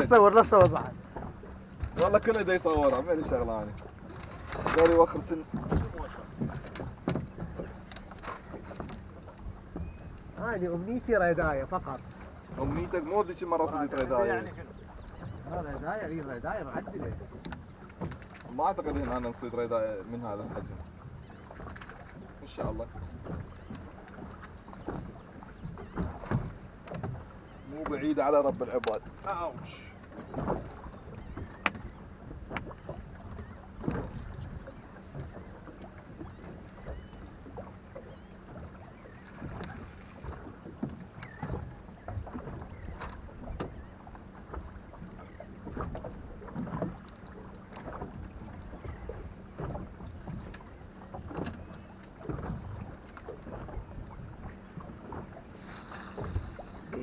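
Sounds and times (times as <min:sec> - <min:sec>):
water knocking against hull: 0:00.0 - 0:57.0.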